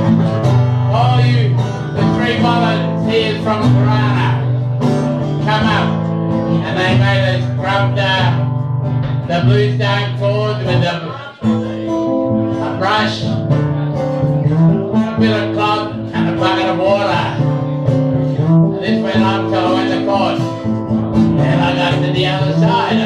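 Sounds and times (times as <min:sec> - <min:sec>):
acoustic guitar strumming: 0:00.0 - 0:23.0
man singing into a microphone: 0:00.8 - 0:04.6, 0:05.4 - 0:08.5, 0:09.2 - 0:17.6, 0:18.4 - 0:23.0.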